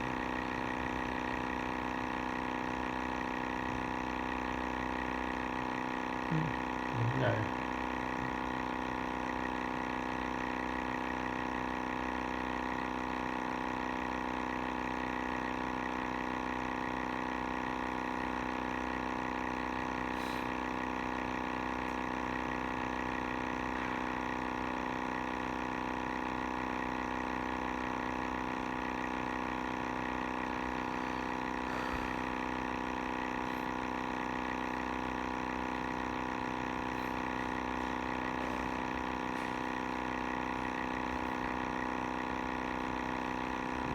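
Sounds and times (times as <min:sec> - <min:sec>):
air sampler pump motor drone: 0:00.0 - 0:43.9.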